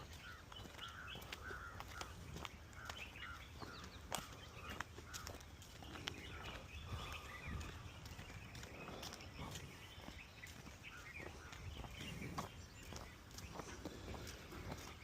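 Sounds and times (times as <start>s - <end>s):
footstep clicks: 0.0s - 15.0s
low wind rumble on microphone: 0.0s - 15.0s
small birds chirping: 0.0s - 15.0s.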